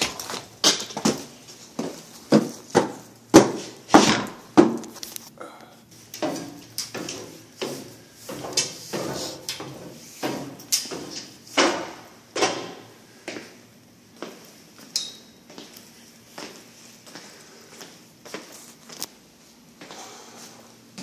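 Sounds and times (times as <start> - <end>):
footsteps on spiral staircase: 0.0 - 5.1, 6.0 - 21.0.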